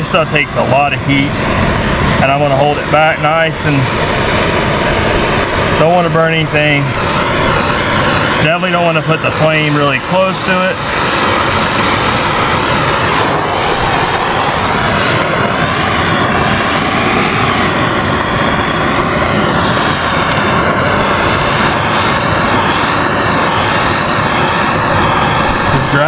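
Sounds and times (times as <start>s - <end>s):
gas torch flame burning: 0.0s - 26.0s.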